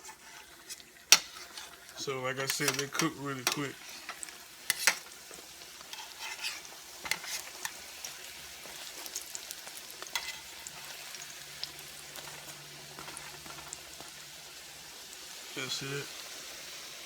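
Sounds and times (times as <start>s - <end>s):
dumplings sizzling in oil: 0.0s - 17.0s.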